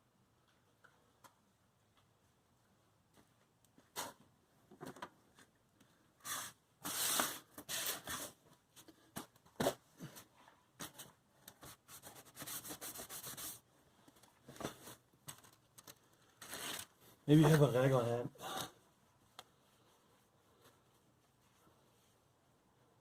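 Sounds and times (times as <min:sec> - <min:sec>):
rubbing and rustling handling noise: 0:00.4 - 0:23.0.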